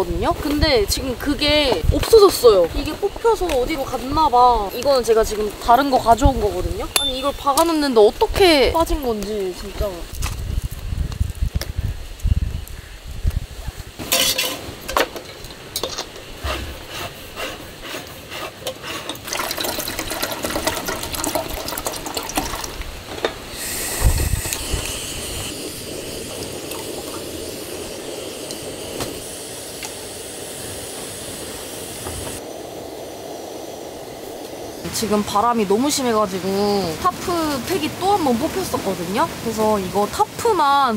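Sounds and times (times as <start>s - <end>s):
gas burner hissing: 0.0s - 40.9s.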